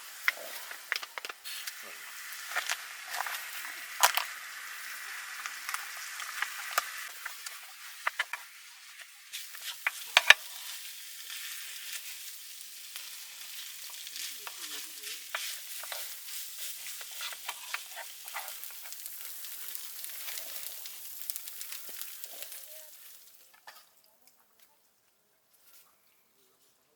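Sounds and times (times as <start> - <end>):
food sizzling in a frying pan: 0.0 - 23.8.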